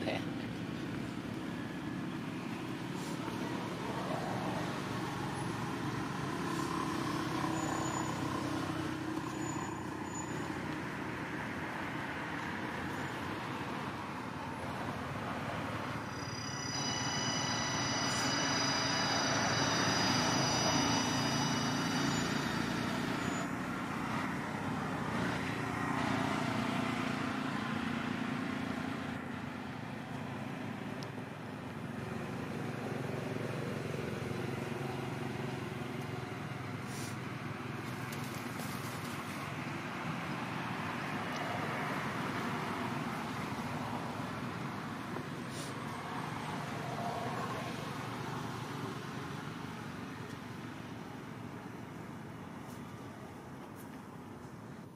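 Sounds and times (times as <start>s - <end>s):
road traffic: 0.0s - 54.9s
vehicles passing: 0.0s - 54.9s.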